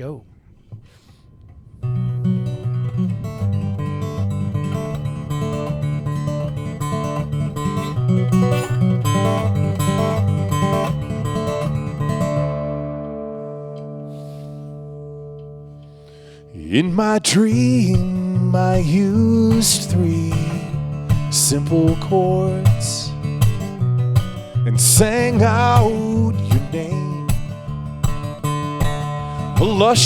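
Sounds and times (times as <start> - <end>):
acoustic guitar strumming chords: 0.8 - 30.0.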